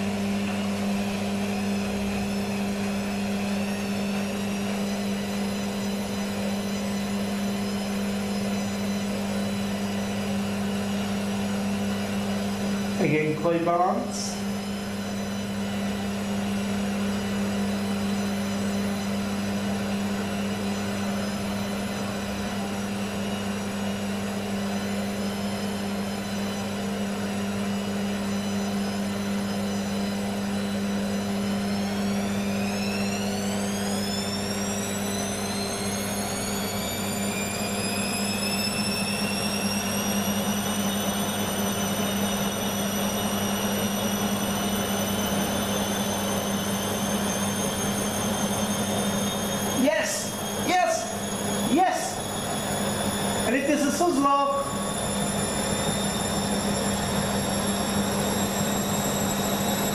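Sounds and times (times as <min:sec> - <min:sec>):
washing machine hum and whine: 0:00.0 - 0:59.9.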